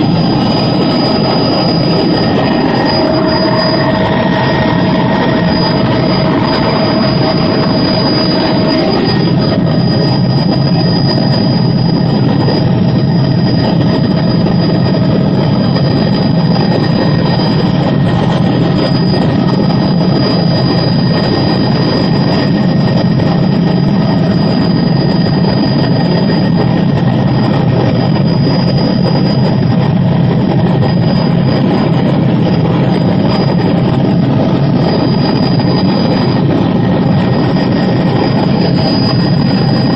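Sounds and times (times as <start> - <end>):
helicopter drone in cabin: 0.0 - 39.9
thin high whine: 0.0 - 39.9.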